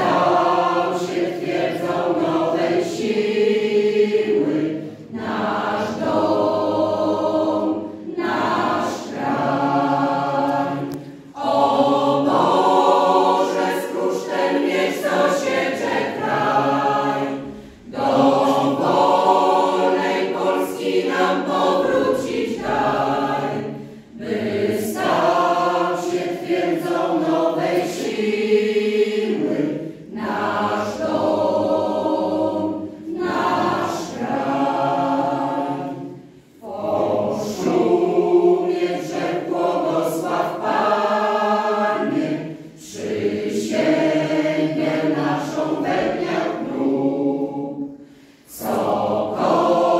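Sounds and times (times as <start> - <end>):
mixed choir singing: 0.0 - 49.9.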